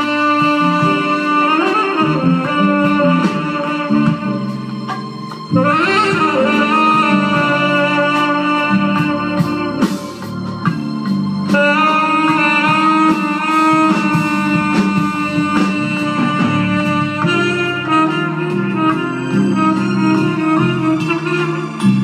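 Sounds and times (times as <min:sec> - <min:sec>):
jazz band playing: 0:00.0 - 0:22.0.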